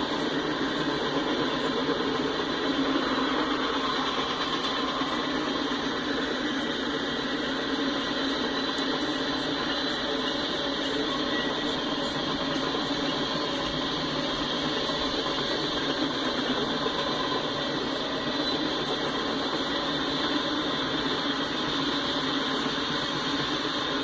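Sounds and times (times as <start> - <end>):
freight cars rumbling on rails: 0.0 - 24.0.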